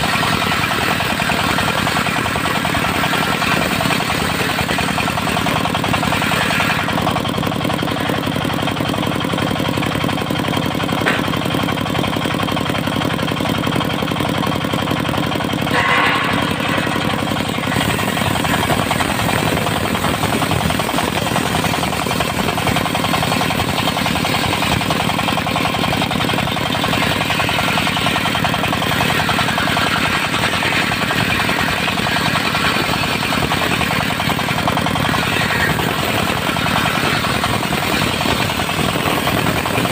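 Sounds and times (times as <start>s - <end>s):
circular saw blade cutting wood: 0.0s - 9.4s, 10.9s - 11.7s, 15.6s - 39.9s
diesel engine running: 0.0s - 39.9s.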